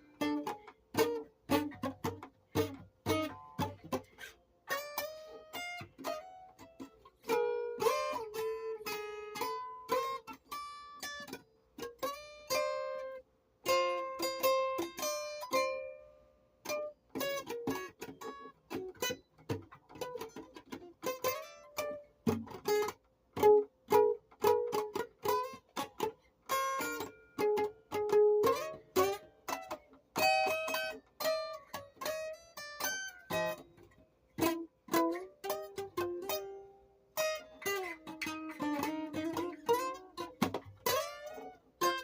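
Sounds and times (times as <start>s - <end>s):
plucked string instrument: 0.0s - 42.0s.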